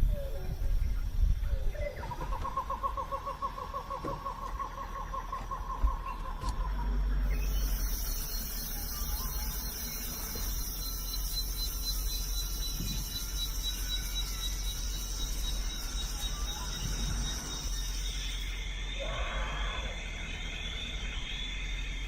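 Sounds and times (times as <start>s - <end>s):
insects chirping chorus: 0.0s - 22.0s.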